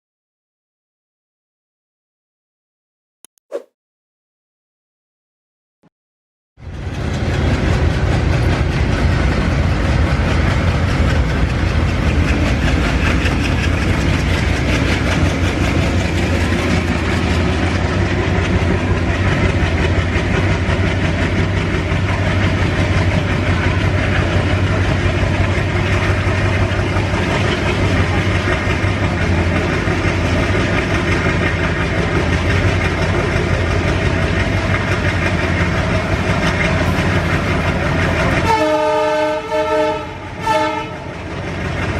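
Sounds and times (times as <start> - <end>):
train wheels rumbling on rails: 6.6 - 41.9.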